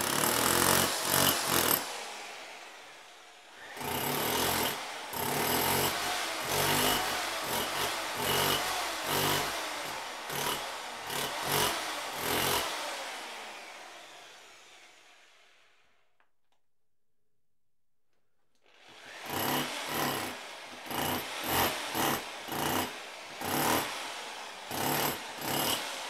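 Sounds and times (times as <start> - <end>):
hammer drill into concrete: 0.0 - 15.8, 18.6 - 26.0.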